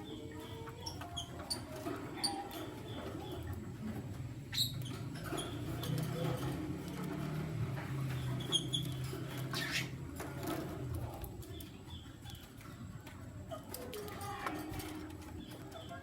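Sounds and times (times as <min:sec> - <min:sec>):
birds squeaky chirps: 0:00.0 - 0:16.0.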